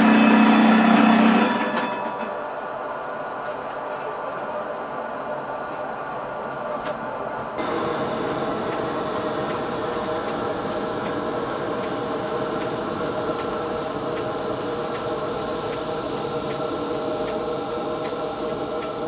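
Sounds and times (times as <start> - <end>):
tram running hum and rumble: 0.0 - 19.0.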